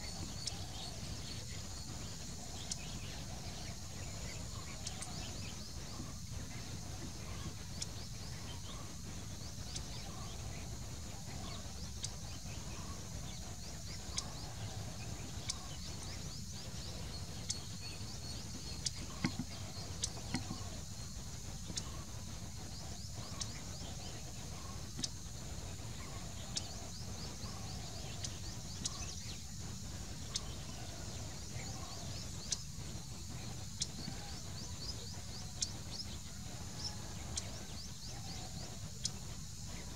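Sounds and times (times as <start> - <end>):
high chirping calls: 0.0 - 39.9.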